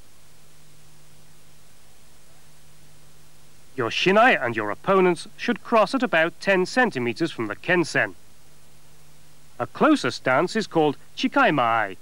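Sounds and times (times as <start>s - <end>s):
background hiss: 0.0s - 12.0s
constant low hum: 0.0s - 12.0s.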